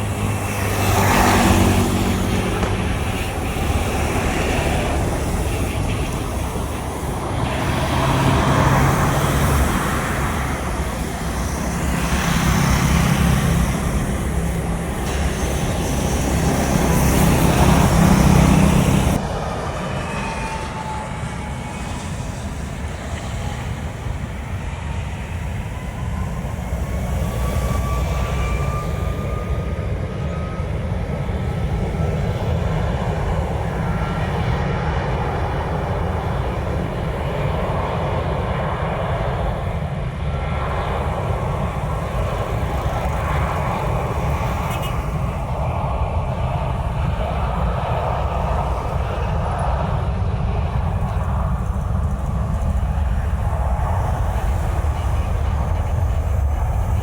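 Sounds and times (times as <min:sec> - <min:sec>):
distant jet engines: 0:00.0 - 0:57.0
road traffic: 0:00.0 - 0:57.0
steady rumble: 0:00.0 - 0:57.0.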